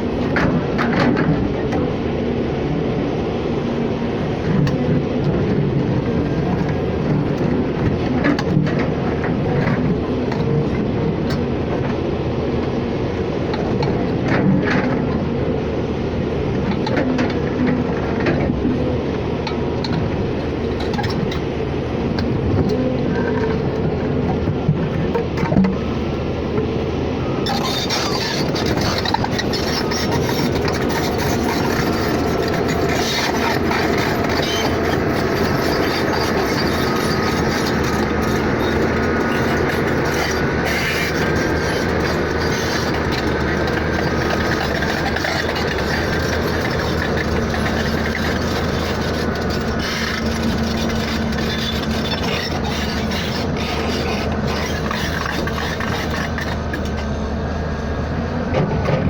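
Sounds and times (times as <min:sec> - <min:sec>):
vehicle running: 0:00.0 - 0:59.0.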